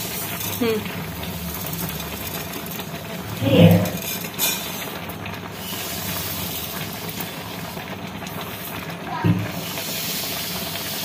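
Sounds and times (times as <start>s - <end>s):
sugar grains pouring: 0.0s - 4.9s, 5.5s - 8.7s, 9.5s - 11.0s.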